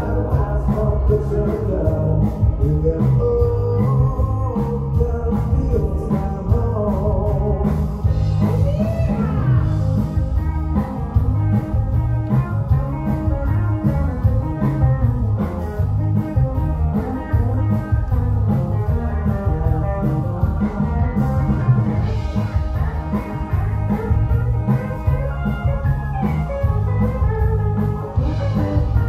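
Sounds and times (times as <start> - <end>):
bass guitar: 0.0 - 29.0
drum kit: 0.0 - 29.0
electric guitar: 0.0 - 29.0
keyboard: 0.0 - 29.0.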